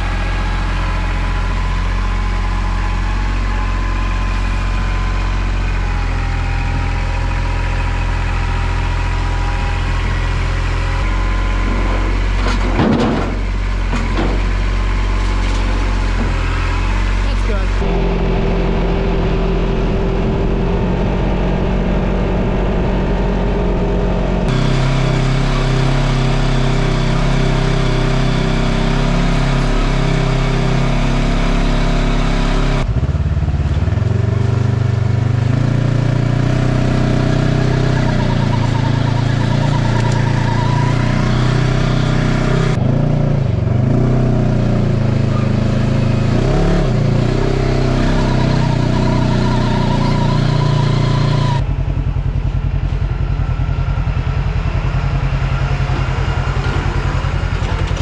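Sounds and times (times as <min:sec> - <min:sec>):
off-road vehicle engine driving: 0:00.0 - 0:58.0.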